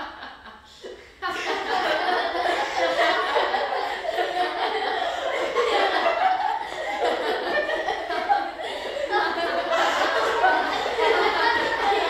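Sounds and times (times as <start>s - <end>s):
girls laughing: 0.0s - 12.0s.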